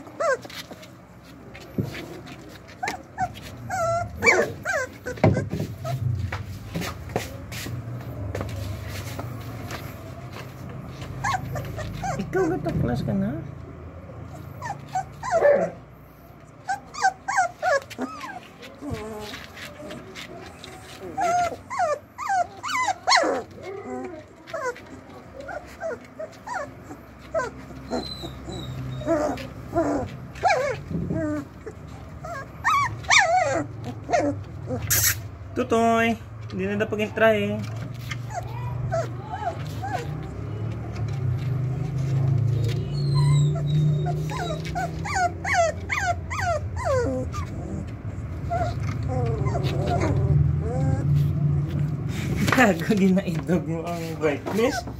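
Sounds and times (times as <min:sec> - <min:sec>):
puppies whimpering and yipping: 0:00.0 - 0:07.5, 0:08.1 - 0:13.0, 0:14.1 - 0:35.6, 0:37.6 - 0:54.9.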